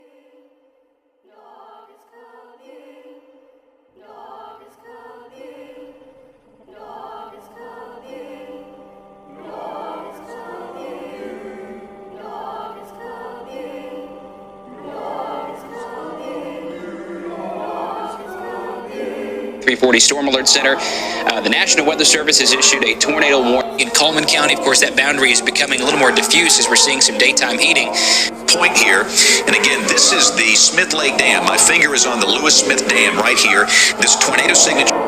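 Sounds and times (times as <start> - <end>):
choir singing sustained notes: 0.0 - 35.0.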